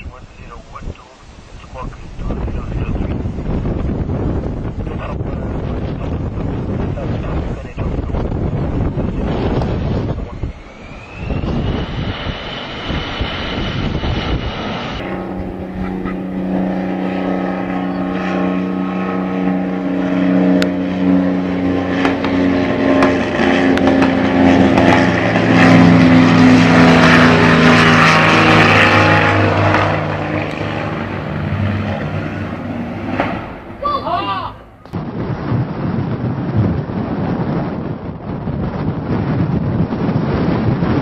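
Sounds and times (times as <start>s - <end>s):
aircraft engine droning: 0.0s - 41.0s
wind buffeting microphone: 0.0s - 41.0s.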